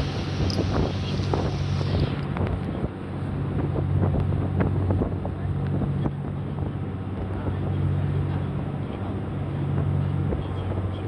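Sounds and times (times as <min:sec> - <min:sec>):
boat engine droning: 0:00.0 - 0:11.0
wind noise on microphone: 0:00.0 - 0:11.0.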